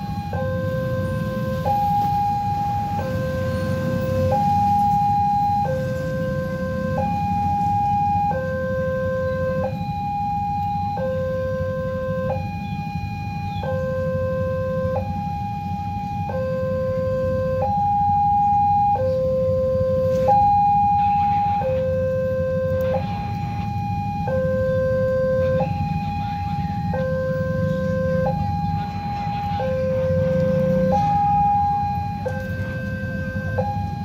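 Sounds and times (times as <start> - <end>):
idling road traffic rumble: 0.0 - 34.0
two-tone crossing alarm: 0.0 - 34.0.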